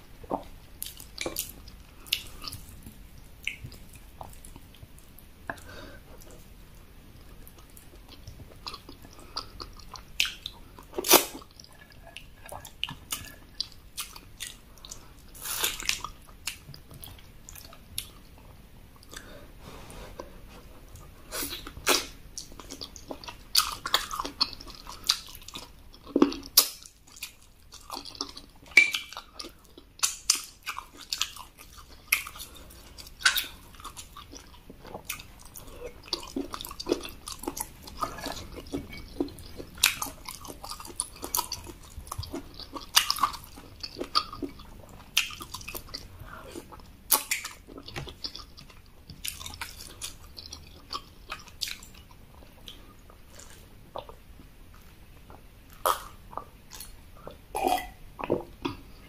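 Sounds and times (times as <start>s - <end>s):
person chewing: 0.2s - 6.6s, 7.2s - 59.0s.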